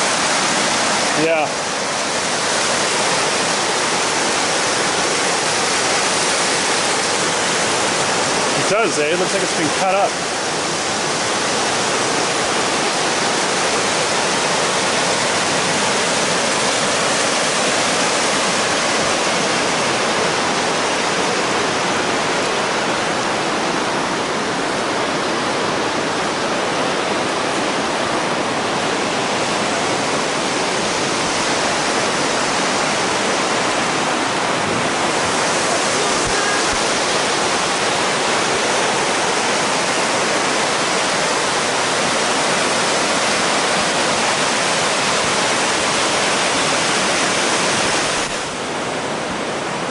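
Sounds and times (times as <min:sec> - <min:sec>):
ocean surf on a beach: 0:00.0 - 0:49.9.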